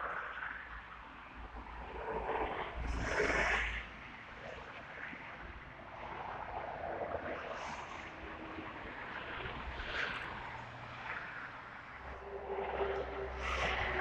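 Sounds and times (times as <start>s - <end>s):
outdoor noise: 0.0s - 14.0s.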